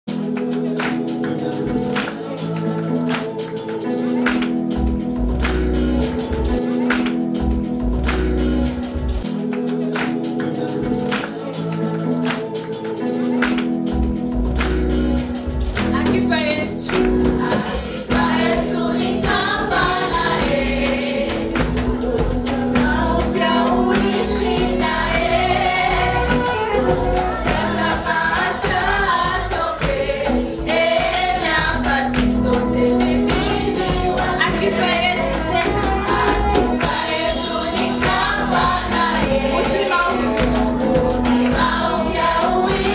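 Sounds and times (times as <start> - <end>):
group of singers: 0.1 - 7.4, 9.2 - 13.9, 16.2 - 42.9
gospel church band with steady beat: 0.1 - 42.9.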